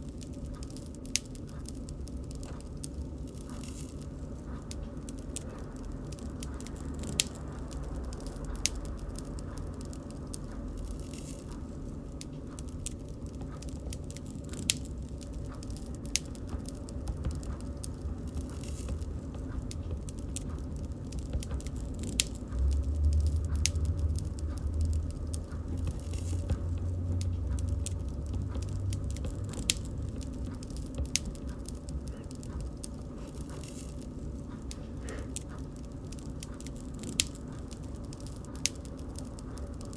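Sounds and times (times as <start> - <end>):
low rumble of flames: 0.0 - 39.9
pops and snaps of burning wood: 0.0 - 39.9.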